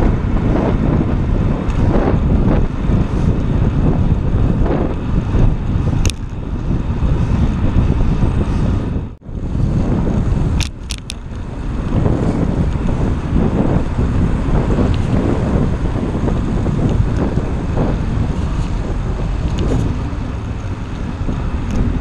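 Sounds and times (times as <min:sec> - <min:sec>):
road traffic: 0:00.0 - 0:22.0
wind buffeting microphone: 0:00.0 - 0:22.0.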